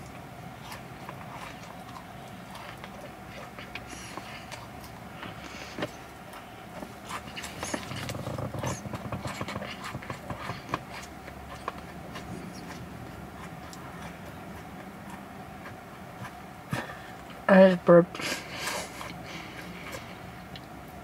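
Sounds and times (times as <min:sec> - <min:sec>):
chewing and mouth sounds: 0:00.0 - 0:17.5, 0:18.4 - 0:21.0.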